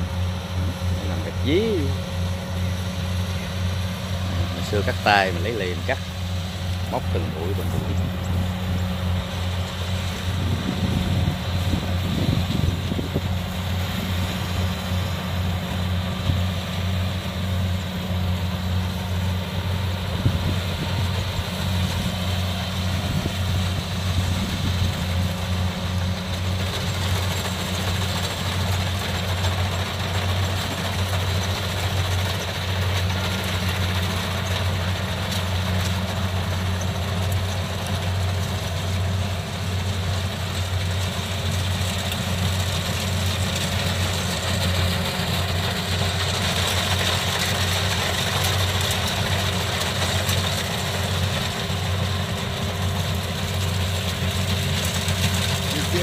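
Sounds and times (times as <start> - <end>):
combine harvester engine humming: 0.0 - 56.0.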